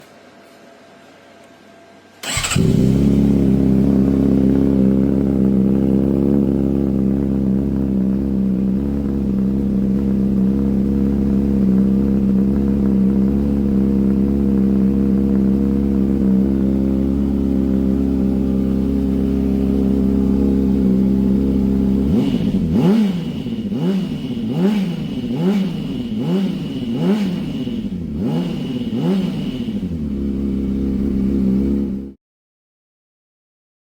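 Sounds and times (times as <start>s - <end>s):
motorcycle engine idling and revving: 2.2s - 32.2s.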